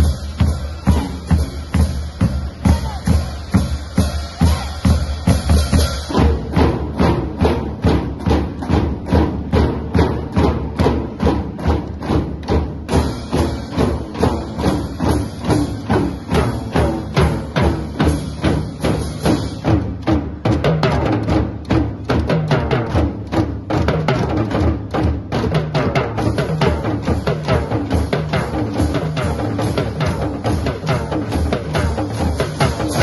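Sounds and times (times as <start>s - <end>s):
marching snare drums: 0.0s - 33.0s.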